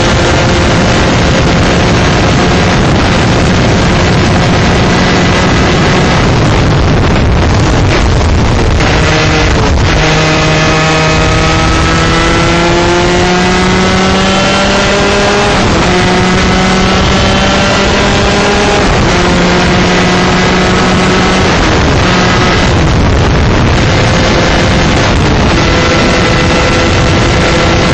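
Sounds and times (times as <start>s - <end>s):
kart engine accelerating hard: 0.0s - 27.9s
wind rush over microphone: 0.0s - 27.9s.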